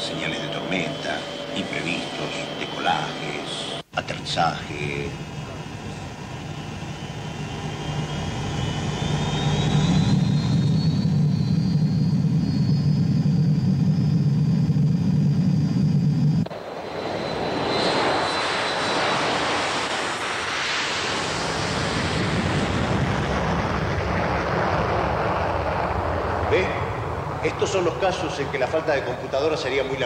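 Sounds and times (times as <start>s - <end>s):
jet airliner taking off: 0.0s - 30.0s
simulator engine hum and whine: 0.0s - 30.0s.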